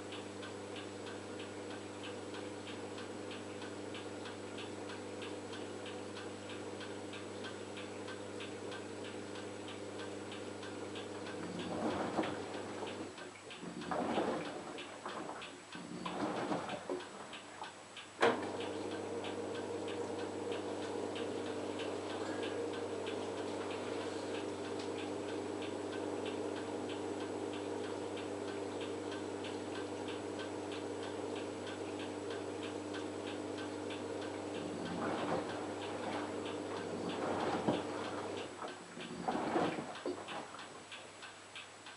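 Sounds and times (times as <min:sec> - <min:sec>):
washing machine motor hum: 0:00.0 - 0:41.9.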